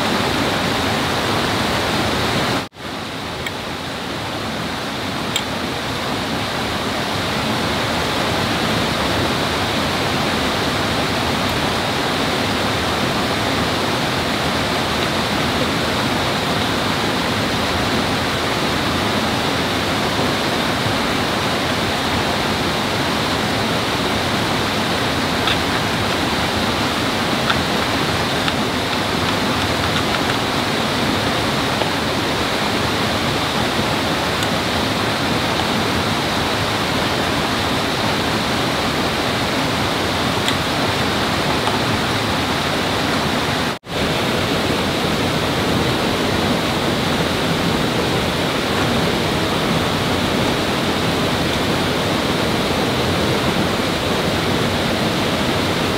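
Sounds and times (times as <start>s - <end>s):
rush of flowing water: 0.0s - 55.9s.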